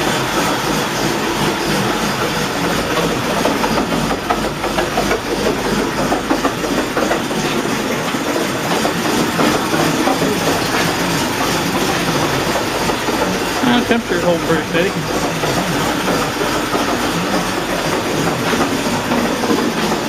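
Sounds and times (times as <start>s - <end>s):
car engine fast idle: 0.0s - 20.0s.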